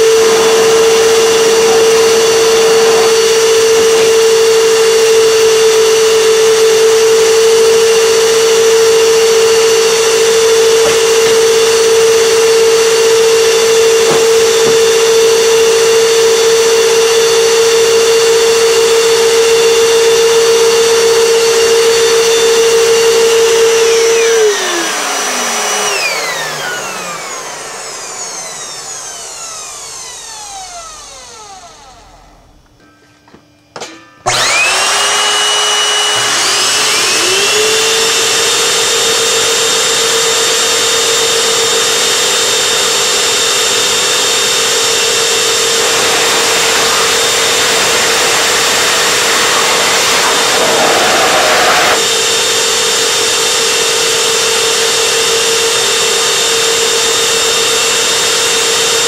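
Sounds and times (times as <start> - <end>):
fan motors whining: 0.0 - 32.8, 34.2 - 59.0.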